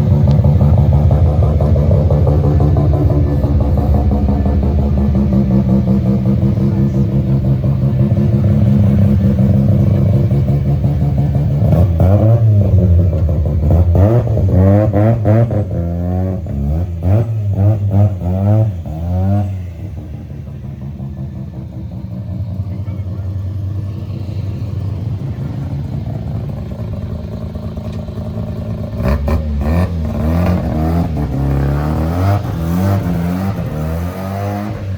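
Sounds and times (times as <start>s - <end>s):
rotary car engine revving: 0.0s - 34.9s.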